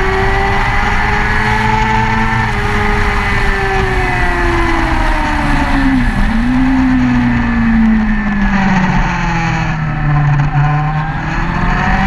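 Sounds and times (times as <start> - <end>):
motorcycle engine: 0.0 - 12.0
wind rush: 0.0 - 12.0.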